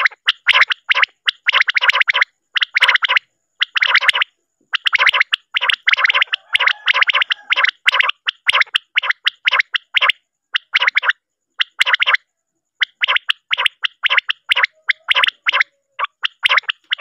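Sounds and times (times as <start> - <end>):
quail calls: 0.0 - 12.2, 12.8 - 17.0.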